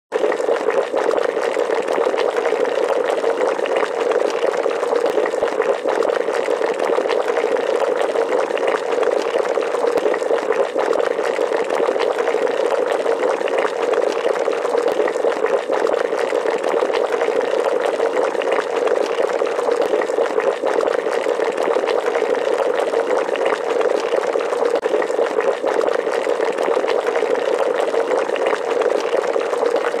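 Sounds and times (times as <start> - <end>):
water boiling hard: 0.1 - 30.0.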